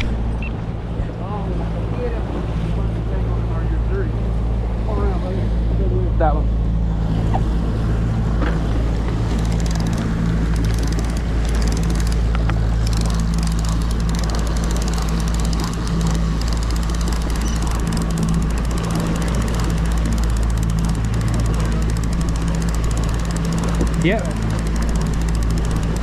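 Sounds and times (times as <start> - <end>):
boat engine droning: 0.0 - 26.0
rush of wind and water: 0.0 - 26.0.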